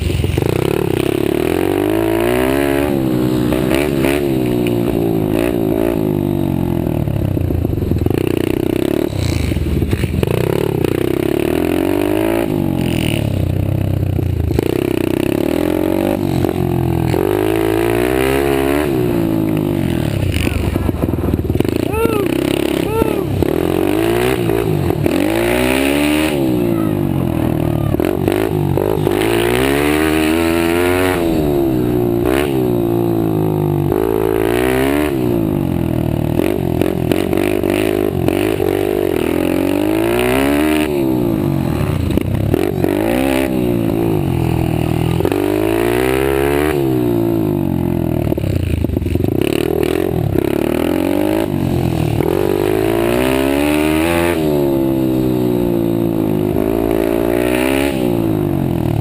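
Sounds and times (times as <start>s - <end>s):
pit bike engines revving: 0.0s - 59.0s.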